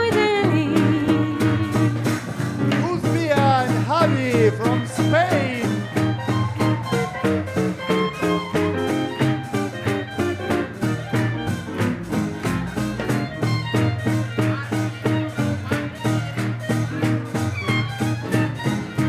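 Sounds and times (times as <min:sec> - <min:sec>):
live swing band playing: 0:00.0 - 0:19.0.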